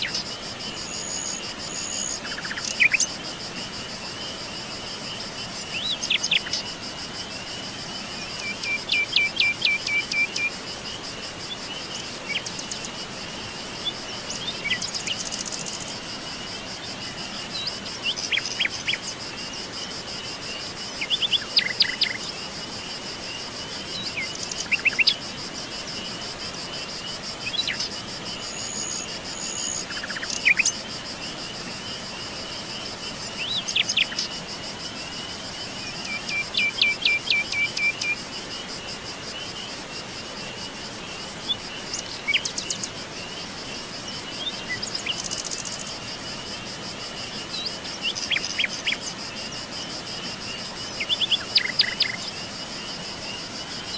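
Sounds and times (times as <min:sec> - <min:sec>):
faint steady hiss: 0:00.0 - 0:53.9
insect trill: 0:00.0 - 0:53.9.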